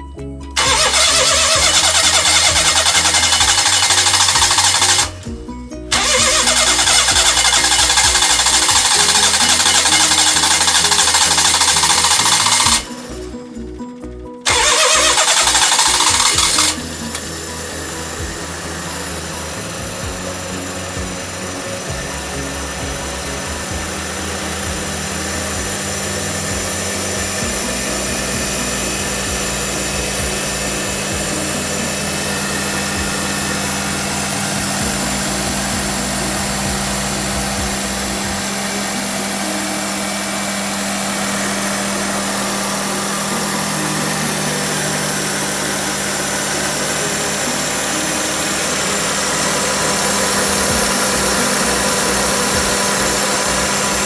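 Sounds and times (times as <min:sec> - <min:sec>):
car engine humming steadily: 0:00.0 - 0:54.0.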